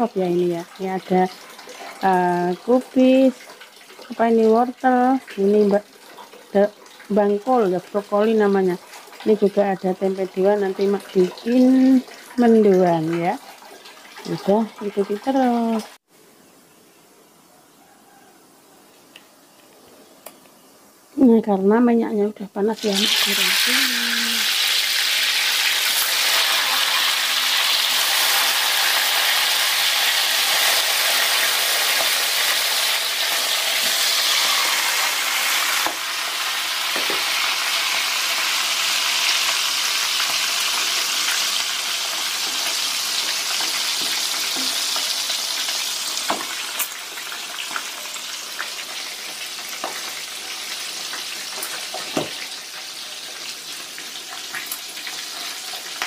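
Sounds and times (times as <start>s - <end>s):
chicken deep-frying in hot oil: 0.0s - 16.0s, 21.2s - 56.0s.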